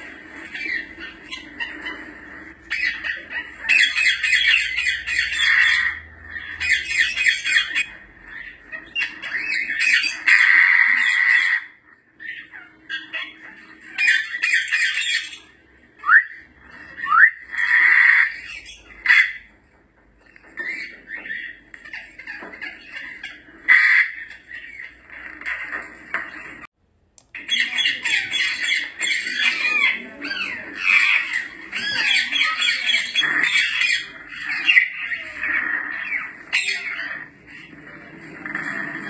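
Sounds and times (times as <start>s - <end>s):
parrots harsh raspy calls: 0.0s - 19.6s, 20.2s - 26.7s, 27.4s - 39.0s.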